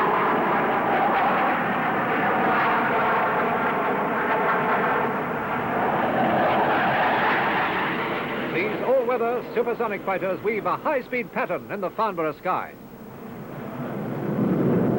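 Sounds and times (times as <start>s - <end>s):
jet fighters roaring overhead: 0.0s - 14.9s.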